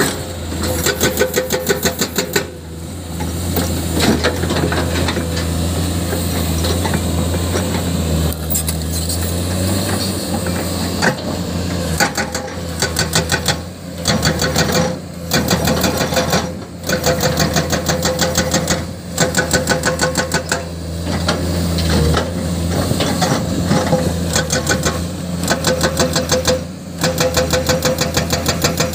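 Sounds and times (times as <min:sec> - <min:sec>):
diesel excavator engine running: 0:00.0 - 0:28.9
hydraulic breaker hammering rock: 0:00.0 - 0:28.9.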